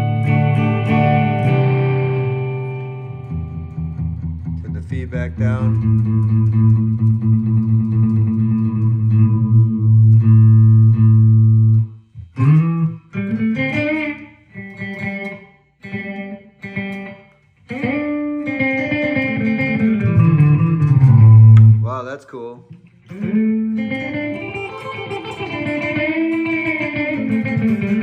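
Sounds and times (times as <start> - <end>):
electric guitar with delay: 0.0 - 22.0, 22.7 - 28.0.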